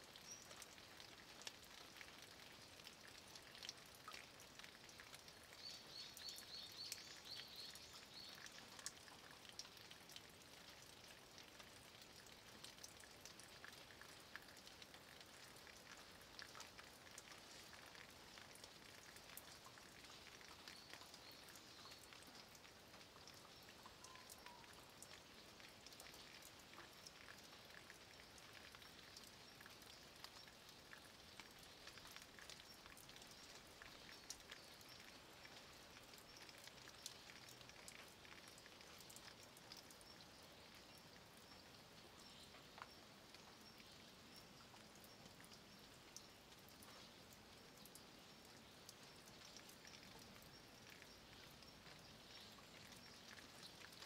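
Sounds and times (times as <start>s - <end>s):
drip ticks: 0.0s - 54.0s
light rain hiss: 0.0s - 54.0s.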